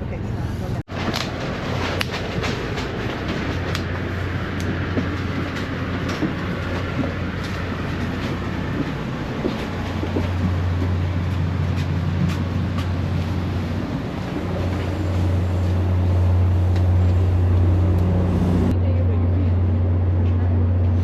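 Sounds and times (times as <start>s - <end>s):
train hum and rumble: 0.0s - 21.0s.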